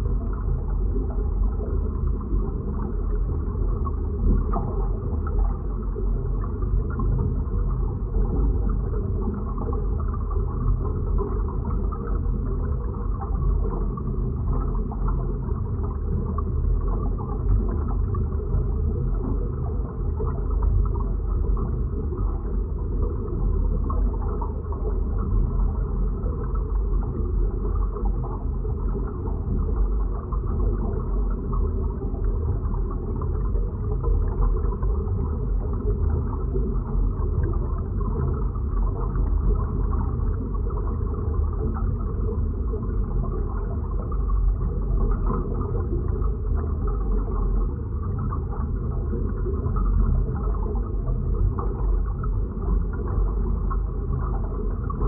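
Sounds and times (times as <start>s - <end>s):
deep muffled rumble with crackle: 0.0s - 55.0s.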